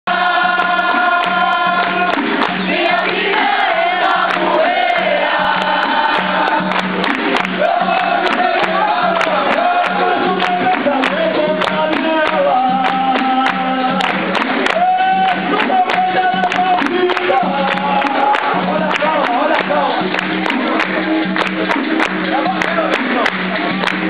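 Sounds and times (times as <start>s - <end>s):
group of voices singing: 0.1s - 21.2s
rhythmic percussion beat: 0.1s - 24.0s
sharp clicks and claps: 0.5s - 24.0s.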